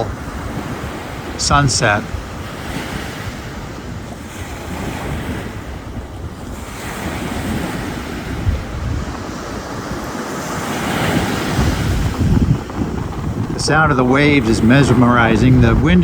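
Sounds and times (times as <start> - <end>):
ocean waves breaking: 0.0 - 16.0
wind buffeting microphone: 0.0 - 16.0.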